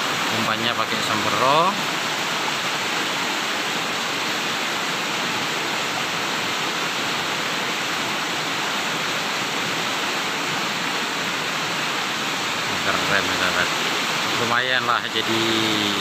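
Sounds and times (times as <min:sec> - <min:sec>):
river water rushing over stones: 0:00.0 - 0:16.0.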